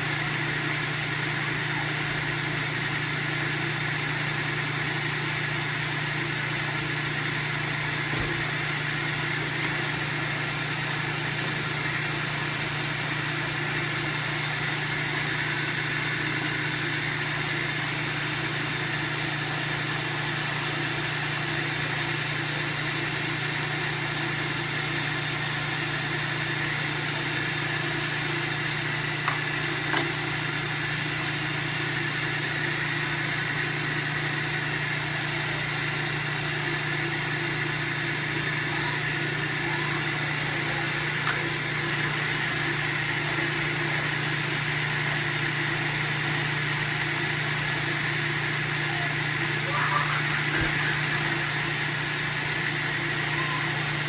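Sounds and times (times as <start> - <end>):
kitchen appliance motor humming: 0.0 - 54.0.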